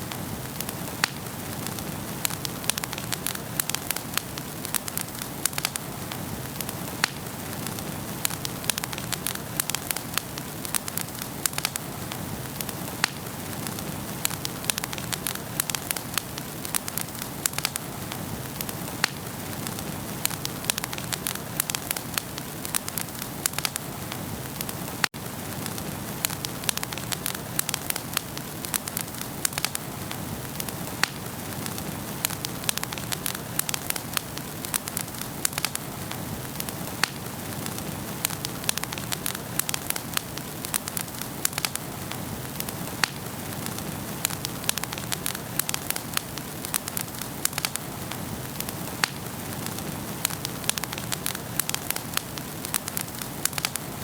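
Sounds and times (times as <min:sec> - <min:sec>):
fire crackles and pops: 0:00.0 - 0:54.0
wood fire hissing: 0:00.0 - 0:54.0.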